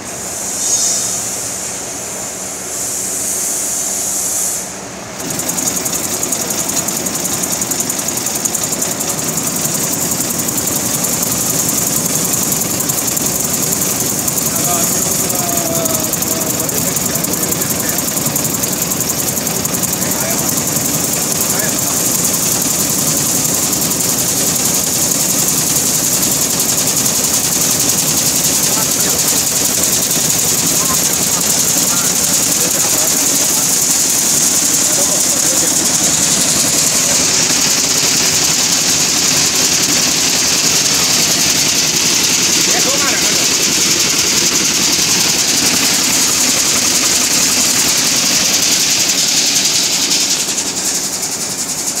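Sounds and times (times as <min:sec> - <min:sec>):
chopping machine drone and rattle: 0:03.6 - 0:52.0.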